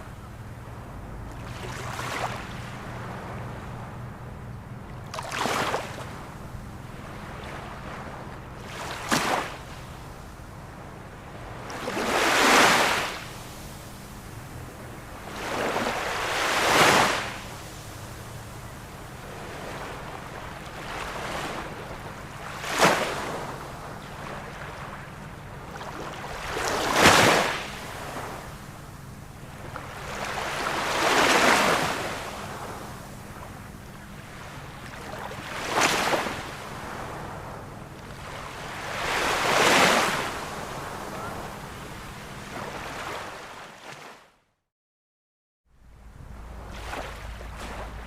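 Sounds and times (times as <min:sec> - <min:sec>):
ocean waves breaking on shore: 0:00.0 - 0:44.3, 0:46.1 - 0:48.0.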